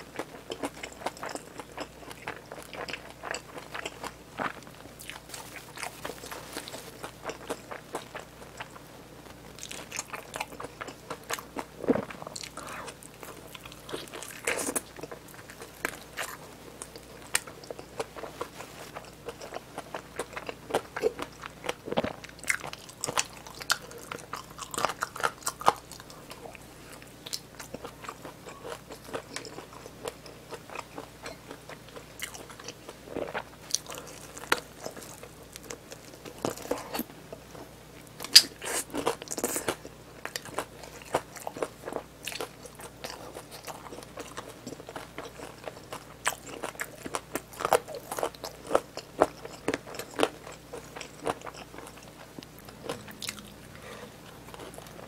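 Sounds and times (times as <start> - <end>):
chewing: 0.1 - 8.8, 9.6 - 55.0.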